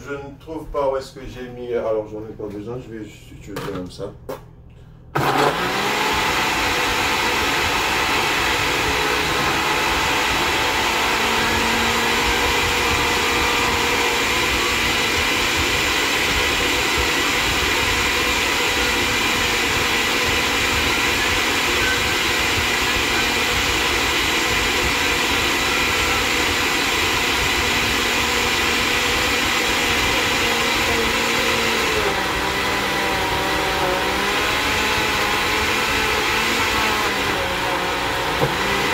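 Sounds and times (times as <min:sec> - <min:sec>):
blender running: 0:05.2 - 0:38.9.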